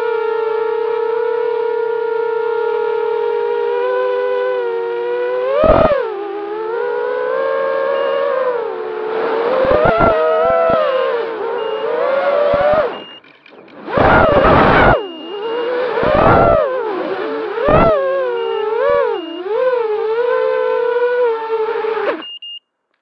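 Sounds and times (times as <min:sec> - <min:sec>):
quadcopter motors whining: 0:00.0 - 0:22.3.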